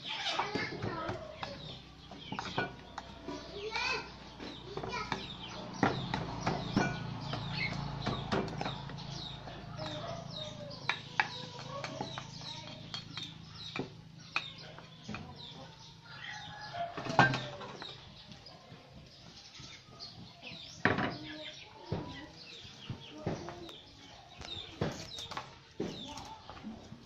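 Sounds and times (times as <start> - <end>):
chickens clucking: 0.0 - 27.0
small birds chirping: 0.0 - 27.0.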